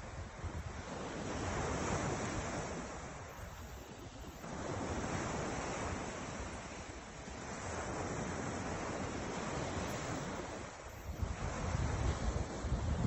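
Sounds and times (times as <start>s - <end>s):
waves breaking: 0.0s - 13.0s
wind rumble on microphone: 0.0s - 13.0s.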